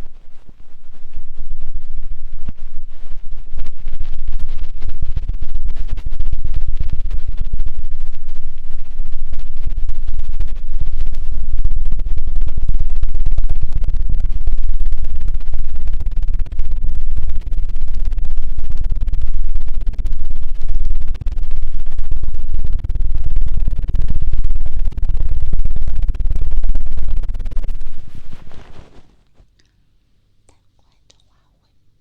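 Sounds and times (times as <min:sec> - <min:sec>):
fast fluttering rumble on microphone: 0:00.0 - 0:29.6.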